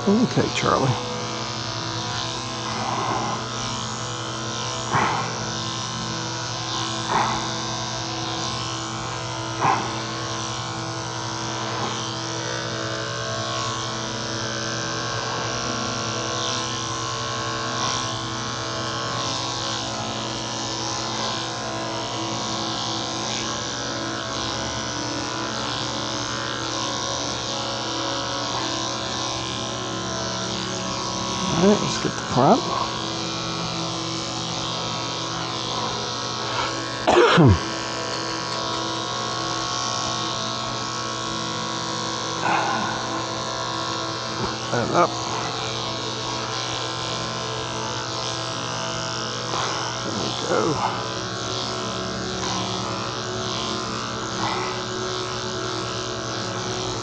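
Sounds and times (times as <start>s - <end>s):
electric clippers buzzing: 0.0s - 57.0s.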